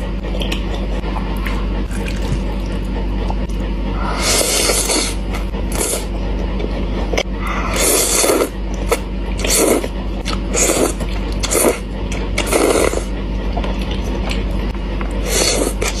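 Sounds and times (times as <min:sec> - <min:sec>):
slurping and chewing noodles: 0:00.0 - 0:16.0
steady low hum: 0:00.0 - 0:16.0.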